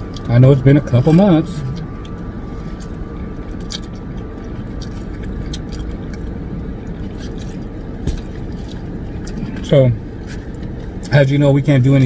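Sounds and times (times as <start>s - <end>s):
low hum inside car cabin: 0.0s - 12.0s.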